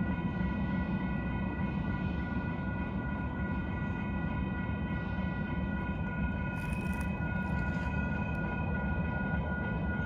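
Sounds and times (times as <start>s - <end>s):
crossing warning bell ringing: 0.0s - 10.0s
freight train rumble: 0.0s - 10.0s.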